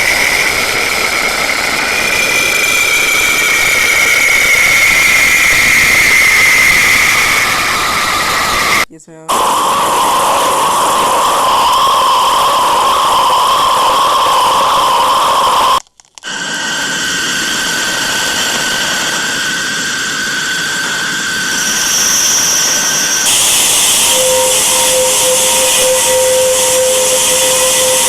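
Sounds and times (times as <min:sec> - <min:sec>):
higher whistle: 0:00.0 - 0:28.0
hissing drone with whistling tones: 0:00.0 - 0:28.0.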